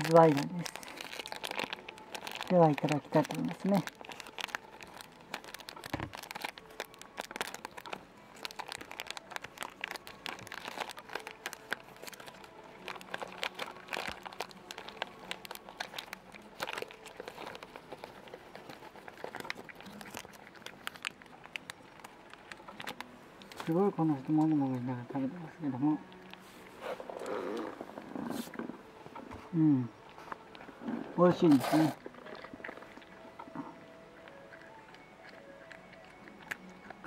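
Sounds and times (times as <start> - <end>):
cat crunching dry kibble: 0.0 - 37.0.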